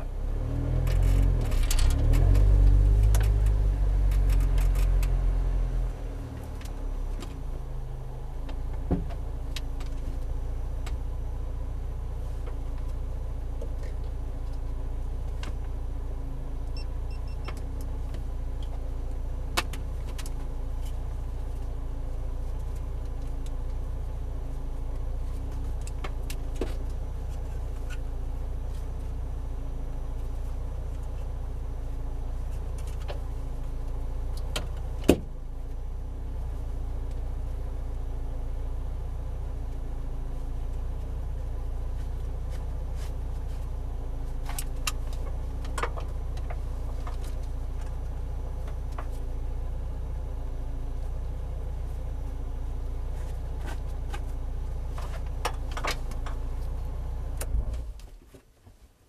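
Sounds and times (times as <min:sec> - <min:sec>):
car engine from inside cabin: 0:00.0 - 0:58.9.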